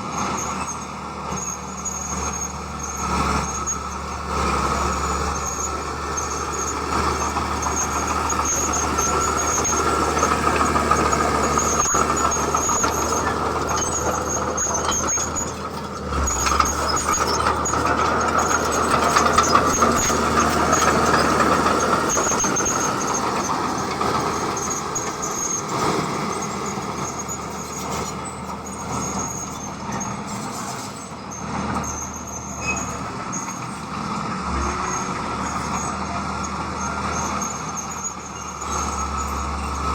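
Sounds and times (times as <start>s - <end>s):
heavy machinery engine: 0.0s - 39.9s
steady squeal: 0.0s - 39.9s.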